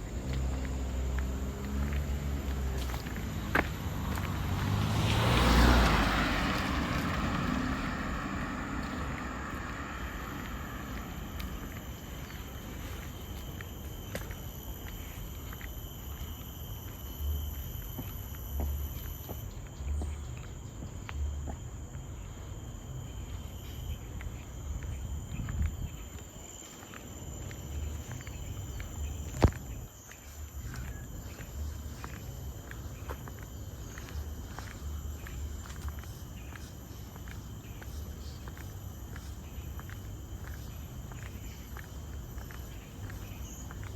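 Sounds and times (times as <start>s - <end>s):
footsteps on a trail: 0.0s - 43.9s
forest insects droning: 0.0s - 43.9s.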